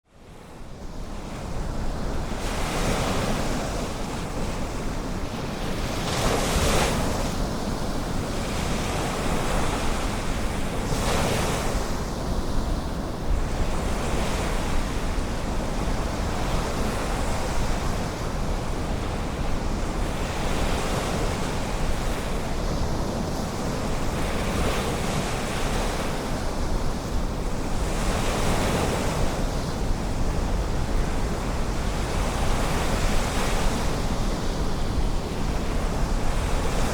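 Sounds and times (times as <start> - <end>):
waves breaking on shore: 0.2 - 36.9.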